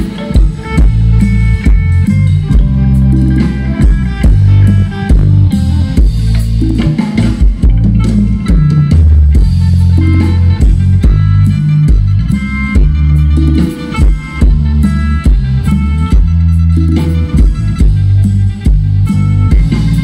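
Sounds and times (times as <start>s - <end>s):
live band playing dance tune: 0.0s - 20.0s.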